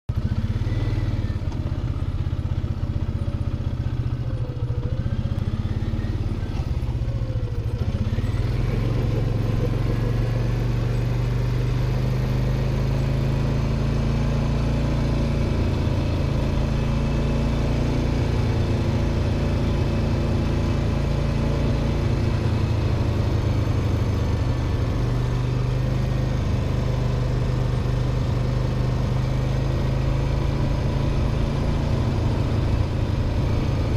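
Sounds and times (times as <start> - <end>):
quad bike engine running: 0.1 - 33.9.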